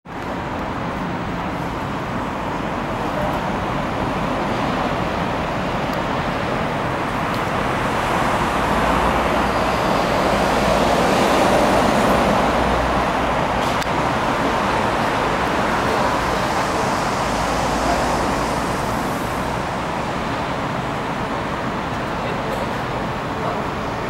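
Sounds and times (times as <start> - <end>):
electric train rolling rumble: 0.1 - 24.0.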